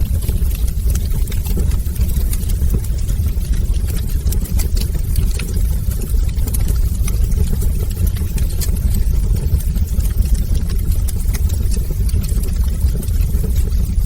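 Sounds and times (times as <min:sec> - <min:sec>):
low fire rumble: 0:00.0 - 0:14.0
wood fire crackling: 0:00.0 - 0:14.0.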